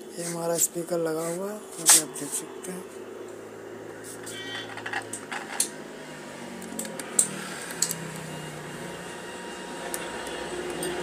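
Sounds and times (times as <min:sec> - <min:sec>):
amplifier electrical hum: 0:00.0 - 0:11.0.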